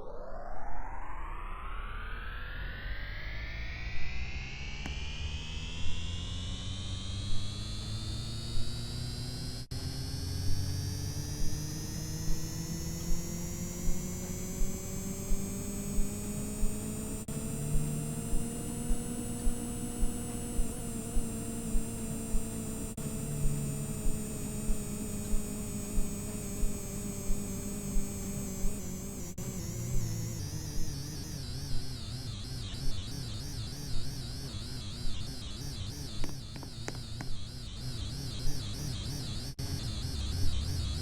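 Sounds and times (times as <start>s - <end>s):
washing machine motor whining: 4.5s - 41.0s.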